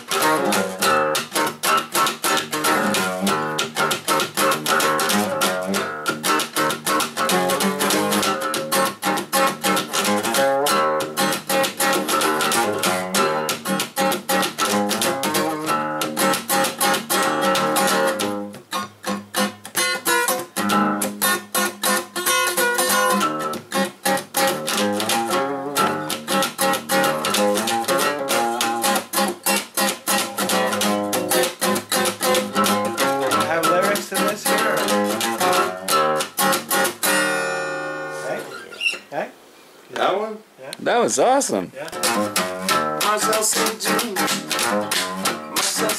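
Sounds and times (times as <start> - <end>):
acoustic guitar strumming: 0.0 - 39.1, 41.9 - 45.9.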